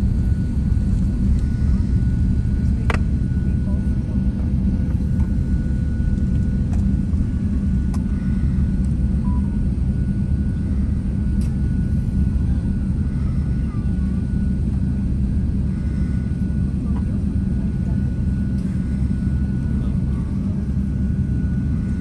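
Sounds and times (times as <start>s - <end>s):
faint high whine: 0.0s - 22.0s
jet engines rumbling: 0.0s - 22.0s.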